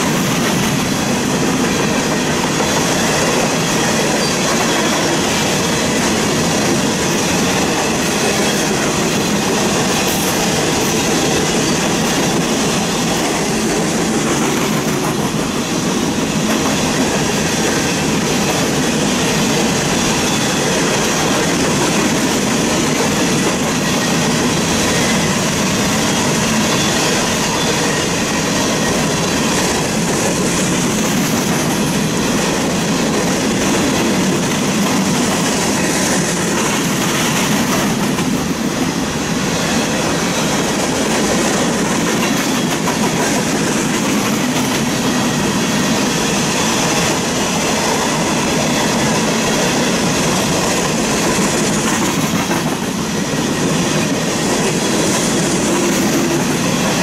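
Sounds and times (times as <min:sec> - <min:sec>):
freight train wheels rolling: 0:00.0 - 0:57.0.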